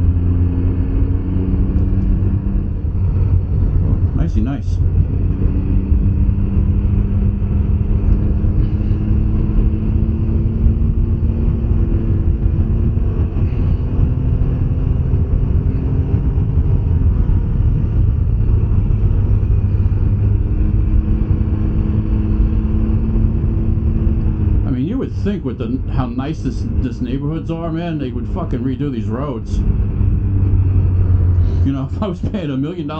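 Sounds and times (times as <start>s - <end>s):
heavy low rumble: 0.0s - 32.9s
three-cylinder engine cruising: 0.0s - 32.9s.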